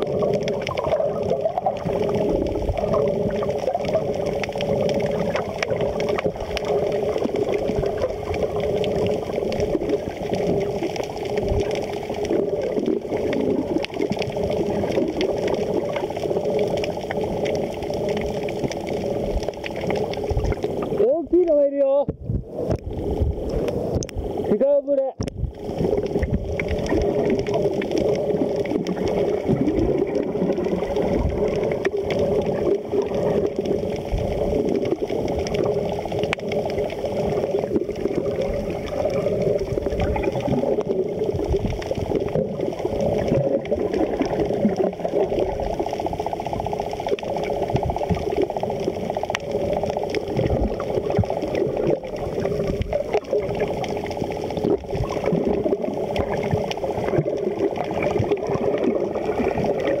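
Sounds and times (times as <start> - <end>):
faint underwater clicks and crackles: 0.0 - 60.0
underwater rushing of water: 0.0 - 60.0.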